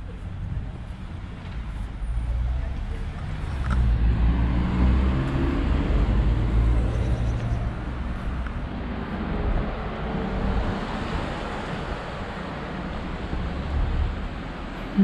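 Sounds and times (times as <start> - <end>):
motor vehicle engine rumble: 0.0 - 15.0.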